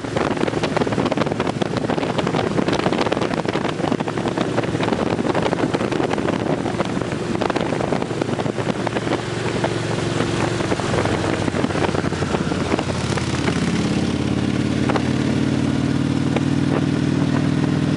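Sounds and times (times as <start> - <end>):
motorcycle engines running: 0.0 - 17.9.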